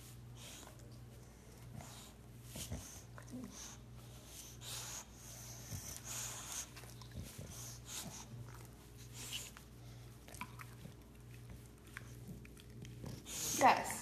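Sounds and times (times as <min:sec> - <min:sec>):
dog breathing: 0:00.0 - 0:14.0.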